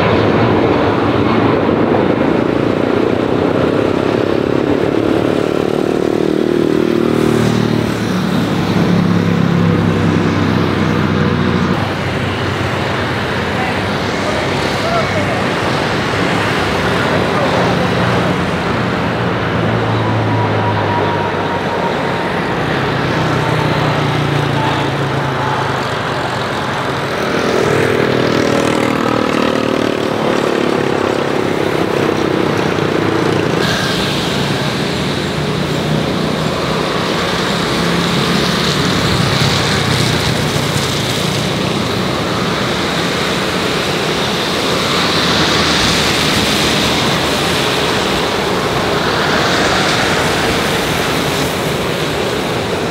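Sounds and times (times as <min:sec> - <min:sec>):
jet engines roaring: 0:00.0 - 0:52.9.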